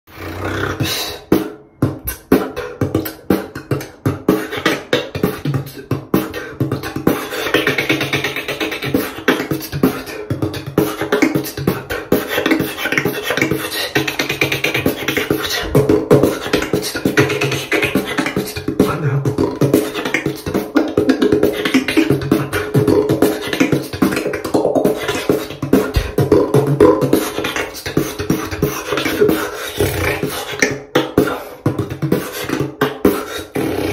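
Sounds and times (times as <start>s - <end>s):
beatboxing: 0.1s - 33.9s
held pitched vocal tones: 0.1s - 33.9s.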